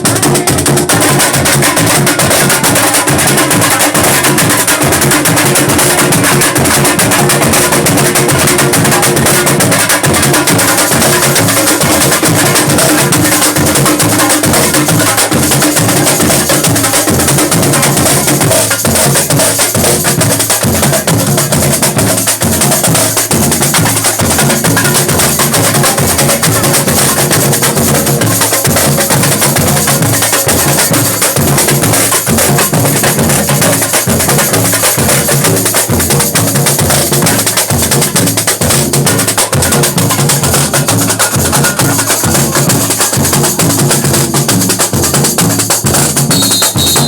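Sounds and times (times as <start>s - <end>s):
driving drum rhythm: 0.0s - 47.0s
sharp clacking percussion: 0.0s - 47.0s.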